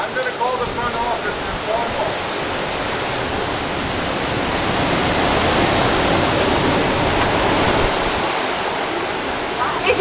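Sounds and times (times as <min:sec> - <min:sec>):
heavy rain: 0:00.0 - 0:10.0
wind: 0:00.0 - 0:10.0.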